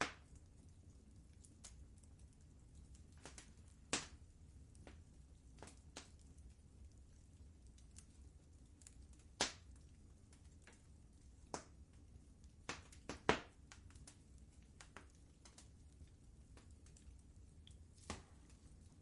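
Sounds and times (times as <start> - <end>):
wood fire crackling: 0.0 - 19.0
low steady rumble: 0.2 - 19.0.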